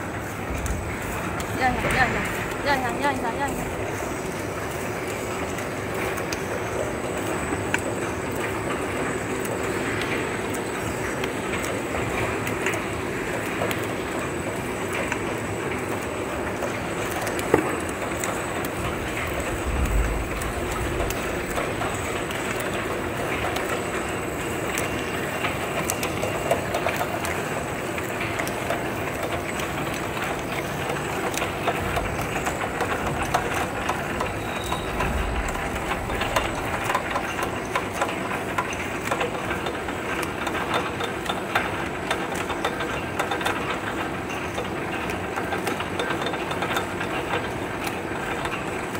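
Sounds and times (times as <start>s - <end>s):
machine clattering rapid clicks: 0.0s - 48.9s.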